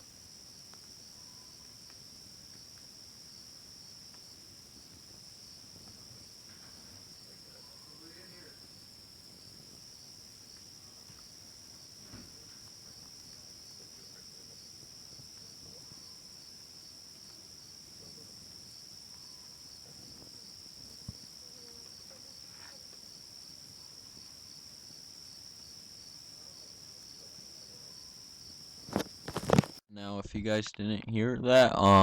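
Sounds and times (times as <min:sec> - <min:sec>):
crickets trilling: 0:00.0 - 0:29.8.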